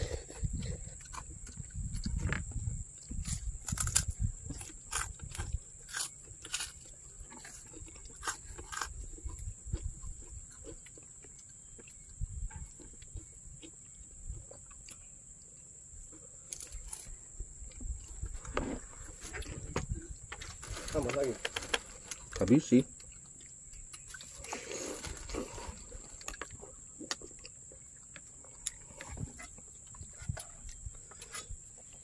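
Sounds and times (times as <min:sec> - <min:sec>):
chewing and crunching food: 0:00.0 - 0:32.0.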